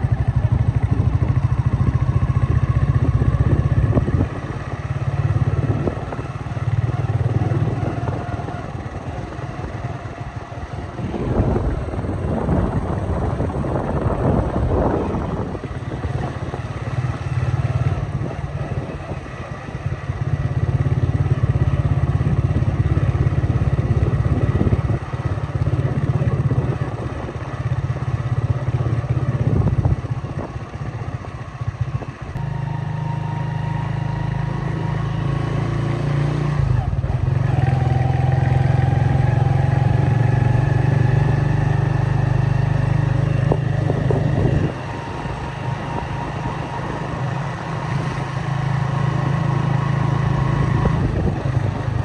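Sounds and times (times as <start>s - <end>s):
traffic engines droning: 0.0s - 52.0s.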